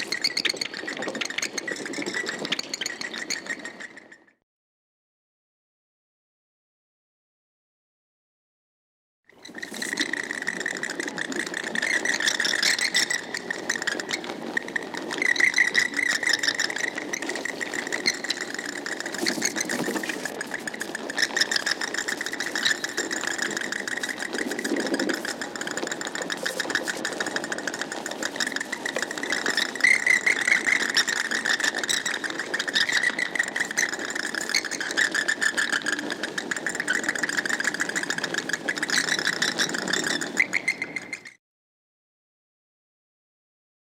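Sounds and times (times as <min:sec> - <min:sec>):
bats chittering and squeaking: 0:00.0 - 0:04.2, 0:09.4 - 0:41.4.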